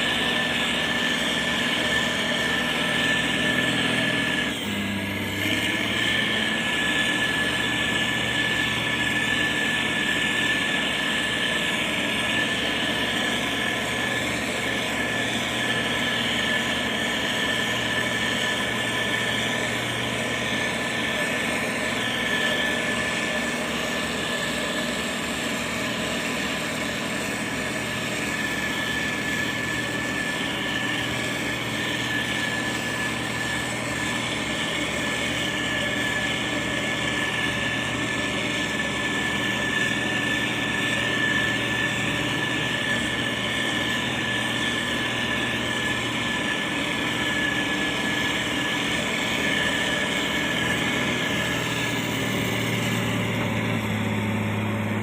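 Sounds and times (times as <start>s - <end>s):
diesel engine running under load: 0.0s - 55.0s
high whine: 0.0s - 55.0s.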